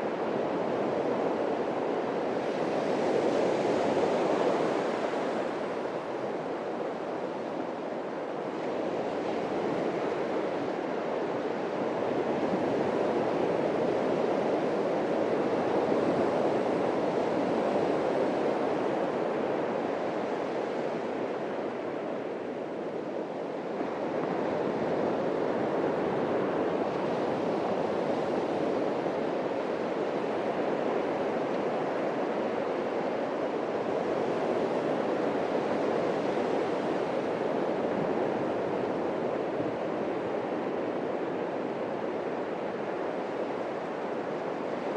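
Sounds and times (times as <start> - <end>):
surf breaking on a beach: 0.0 - 44.9.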